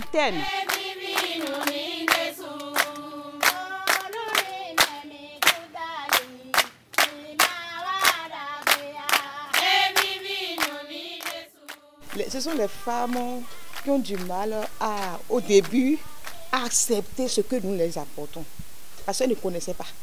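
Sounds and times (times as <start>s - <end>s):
hands clapping to a beat: 0.0s - 16.8s
women singing together: 0.0s - 17.1s.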